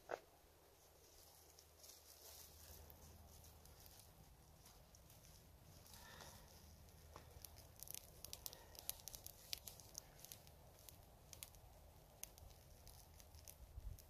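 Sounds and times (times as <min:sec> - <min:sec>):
twigs crackling and snapping in fire: 0:01.1 - 0:14.0.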